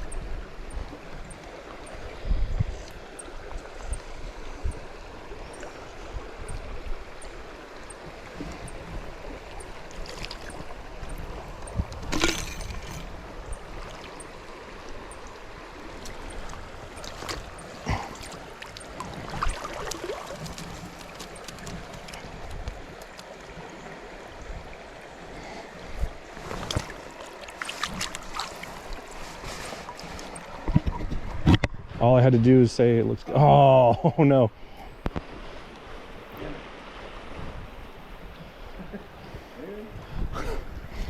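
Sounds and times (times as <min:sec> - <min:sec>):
stream running over riffles: 0:00.0 - 0:41.0.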